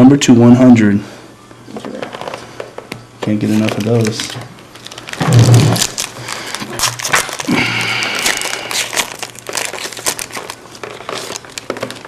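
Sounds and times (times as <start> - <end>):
cards and wrapper crinkling: 1.7 - 12.0.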